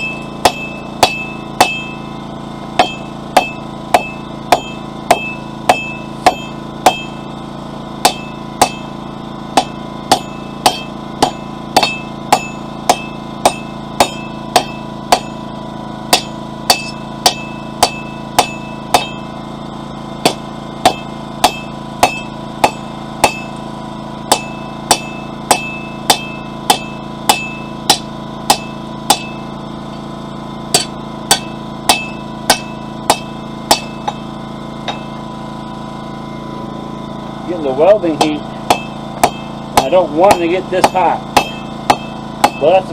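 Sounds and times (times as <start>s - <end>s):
hammer striking steel on anvil: 0.0s - 7.3s, 8.0s - 15.5s, 16.1s - 19.4s, 20.2s - 23.6s, 24.2s - 29.6s, 30.7s - 35.3s, 38.1s - 42.9s
generator droning: 0.0s - 42.9s.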